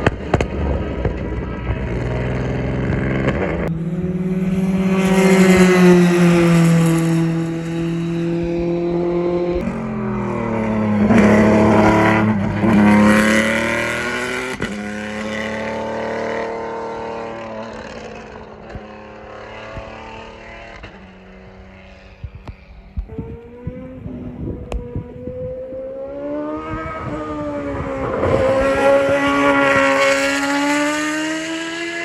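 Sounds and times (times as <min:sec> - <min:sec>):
racing car engine at high revs: 0:00.0 - 0:32.0.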